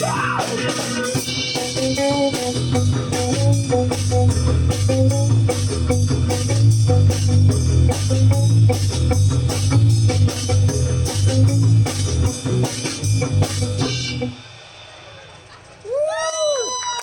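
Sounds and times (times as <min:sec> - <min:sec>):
heavy bass line: 0:00.0 - 0:14.6
drum hits: 0:00.0 - 0:15.1
live rock band playing: 0:00.0 - 0:15.8.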